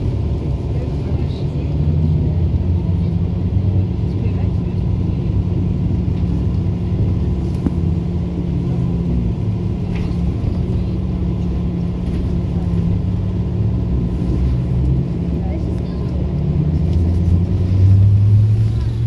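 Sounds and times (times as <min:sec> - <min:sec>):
constant low hum: 0:00.0 - 0:19.0
trolleybus running gear rumbling: 0:00.0 - 0:19.0.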